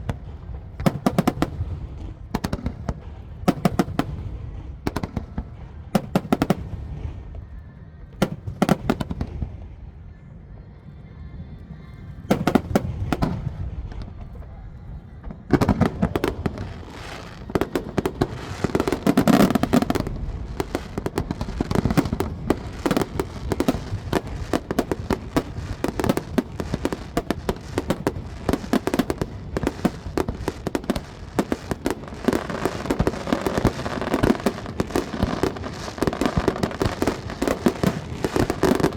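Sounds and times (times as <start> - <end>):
fireworks booming: 0.0 - 9.9, 12.3 - 38.9
fireworks crackling: 0.0 - 10.2, 11.9 - 38.9.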